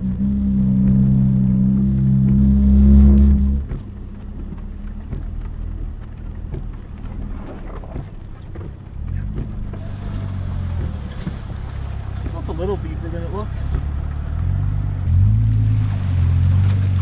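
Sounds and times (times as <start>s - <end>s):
knocks: 0.0s - 15.4s
off-road vehicle engine running: 0.0s - 17.0s.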